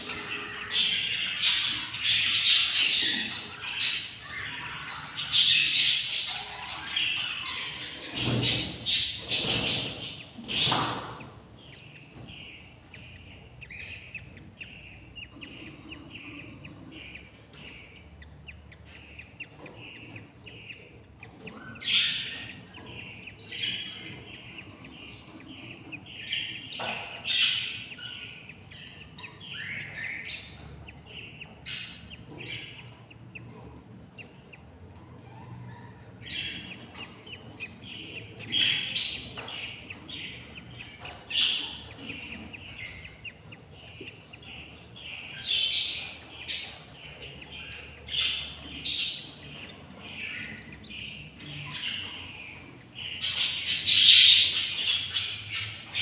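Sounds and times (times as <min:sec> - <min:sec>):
chicks cheeping: 0:00.0 - 0:56.0.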